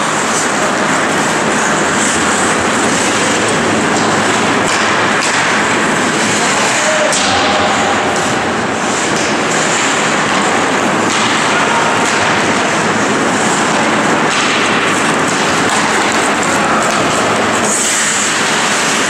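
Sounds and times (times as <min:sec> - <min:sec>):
arena crowd noise: 0:00.0 - 0:19.0
skate blades scraping ice: 0:00.0 - 0:19.0.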